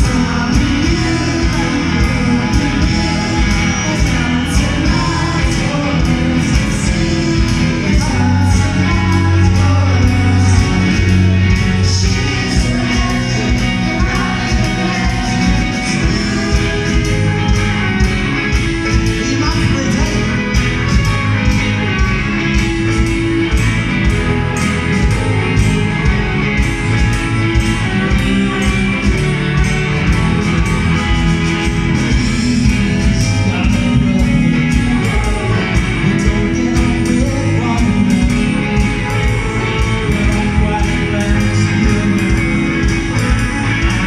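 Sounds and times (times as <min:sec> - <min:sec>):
live rock band playing: 0:00.0 - 0:44.0
steady drum beat: 0:00.0 - 0:44.0.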